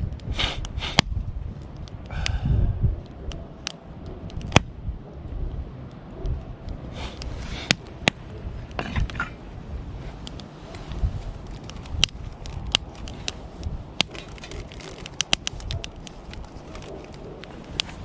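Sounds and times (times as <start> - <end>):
campfire burning with pops: 0.0 - 2.4, 3.0 - 9.3, 10.1 - 18.0.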